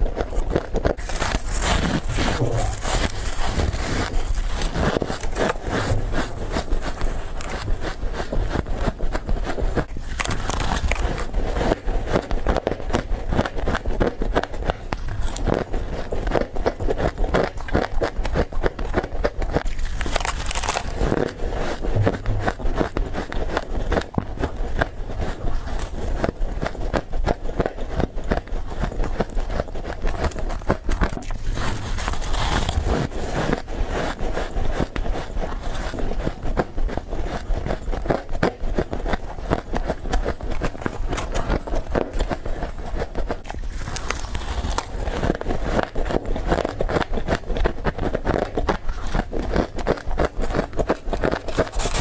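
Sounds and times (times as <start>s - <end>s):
chewing crunchy ice: 0.0s - 52.0s.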